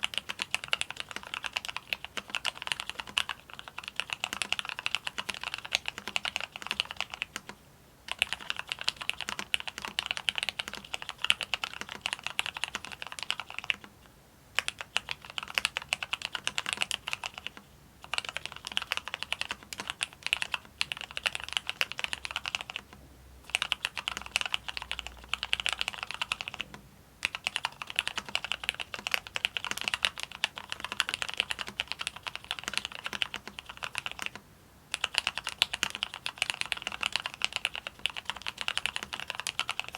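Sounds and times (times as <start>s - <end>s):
mechanical keyboard clacking: 0.0s - 13.9s, 14.6s - 22.9s, 23.5s - 39.9s.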